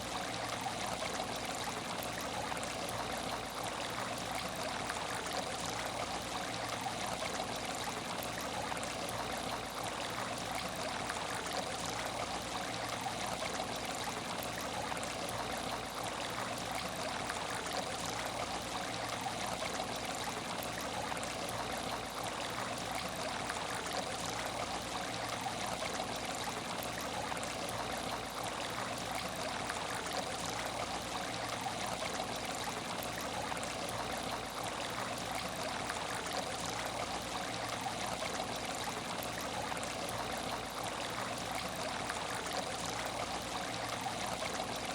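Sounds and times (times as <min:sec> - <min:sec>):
water trickling in aquarium: 0:00.0 - 0:44.9.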